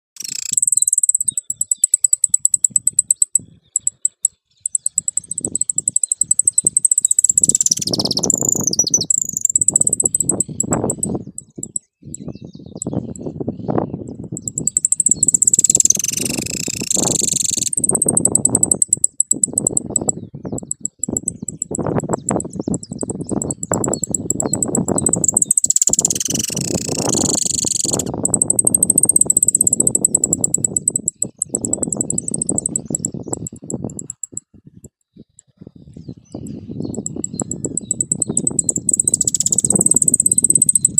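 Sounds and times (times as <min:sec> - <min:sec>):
finch singing: 0:00.2 - 0:13.3, 0:14.4 - 0:34.4, 0:36.1 - 0:40.9
wind rumble on microphone: 0:00.2 - 0:40.9.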